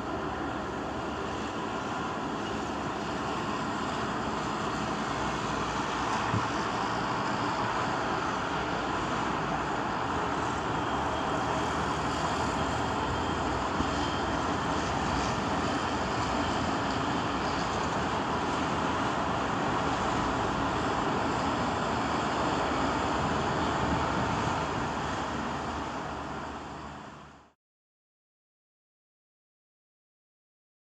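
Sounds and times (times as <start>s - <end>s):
traffic noise: 0.0s - 27.5s.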